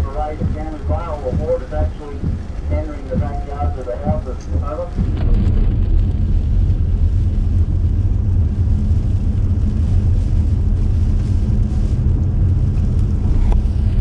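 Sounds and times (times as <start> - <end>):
car driving rumble: 0.0 - 14.0
rain beating on car roof: 0.0 - 14.0
tyres hissing on wet road: 0.0 - 14.0.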